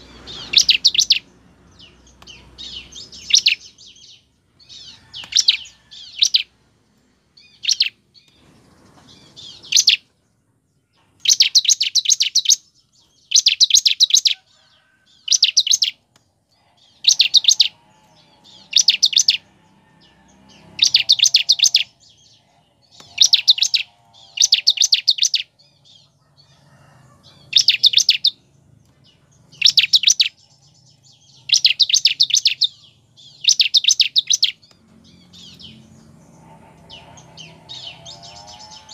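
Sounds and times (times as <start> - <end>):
bird singing fast high chatter: 0.0 - 6.6, 7.4 - 10.1, 11.1 - 26.5, 27.3 - 28.5, 29.1 - 38.9.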